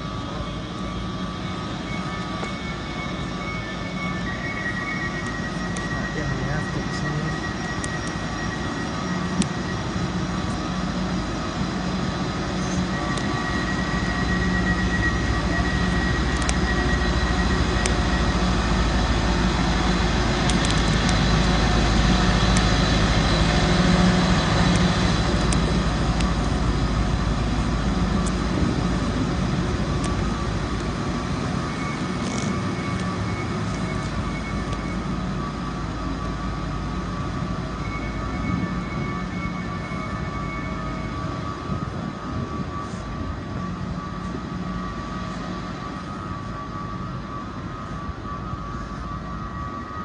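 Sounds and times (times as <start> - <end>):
train machinery hum: 0.0 - 50.0.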